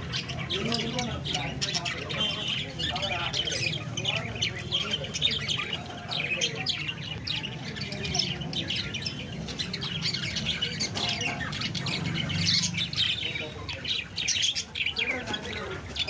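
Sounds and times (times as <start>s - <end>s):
parrots chirping and squawking: 0.0s - 16.0s.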